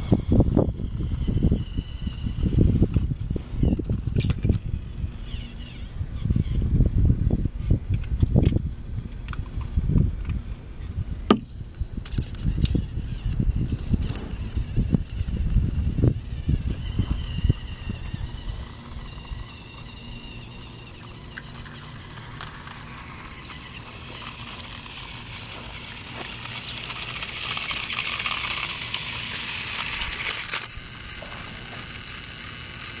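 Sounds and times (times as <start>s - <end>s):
toy train running on track: 0.0s - 6.6s, 11.6s - 33.0s.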